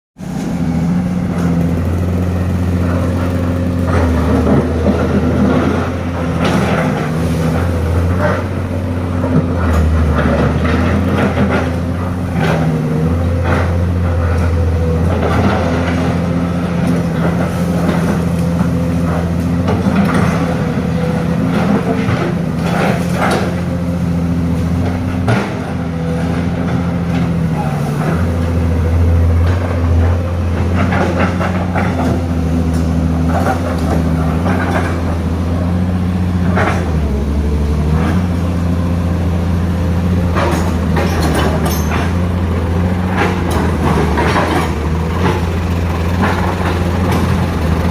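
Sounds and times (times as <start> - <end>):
diesel truck engine running: 0.2 - 47.9.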